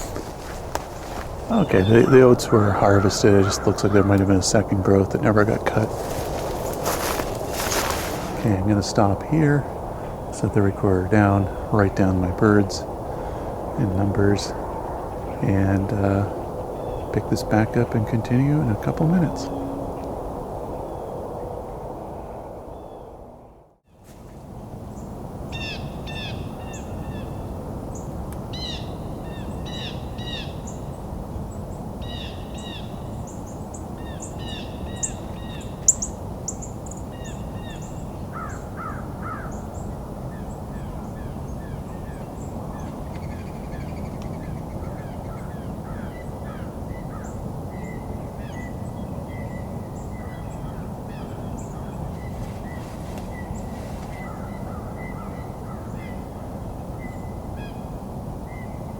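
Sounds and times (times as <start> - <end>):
wild birds calling: 0.0 - 23.6, 25.0 - 58.9.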